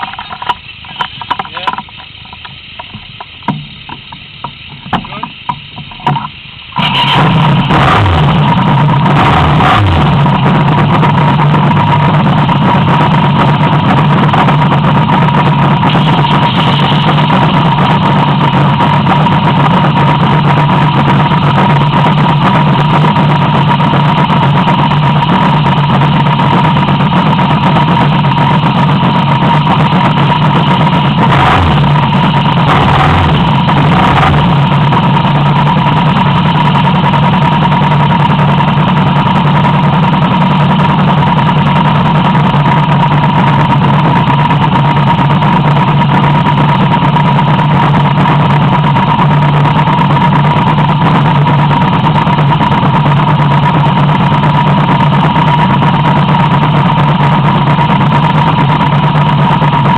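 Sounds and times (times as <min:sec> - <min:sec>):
motorcycle engine starting and idling: 0:00.0 - 0:59.9.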